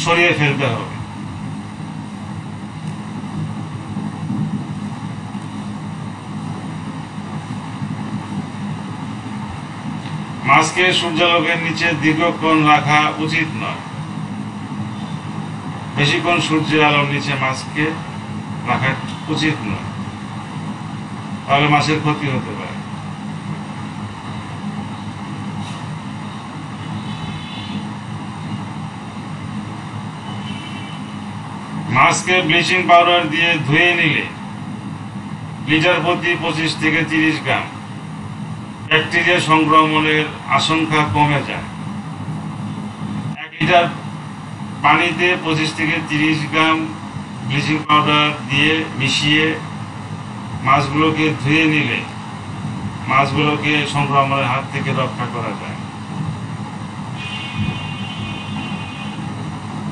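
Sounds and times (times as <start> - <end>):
low mechanical hum: 0.0 - 59.9
low rumbling background noise: 0.0 - 59.9
noisy rush: 0.0 - 59.9.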